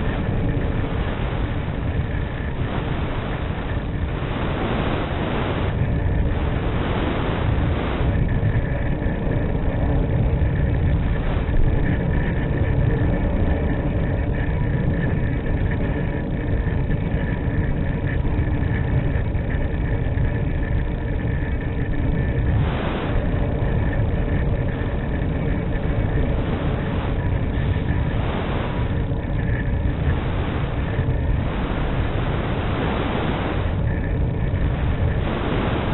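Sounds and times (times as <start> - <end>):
airflow rushing over microphone: 0.0 - 35.9
faint whining tones: 0.0 - 35.9.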